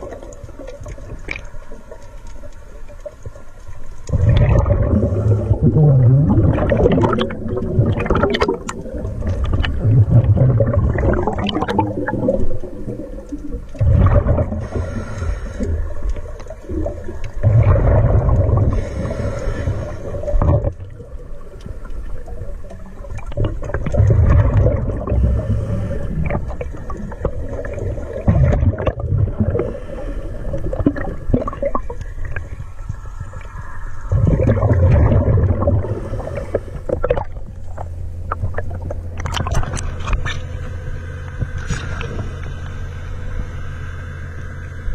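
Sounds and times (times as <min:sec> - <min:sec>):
exhaled bubbles gurgling underwater: 0:00.0 - 0:44.0.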